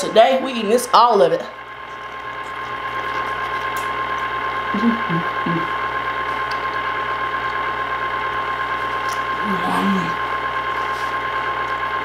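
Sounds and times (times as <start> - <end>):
fountain motor whirring: 0.0 - 12.0.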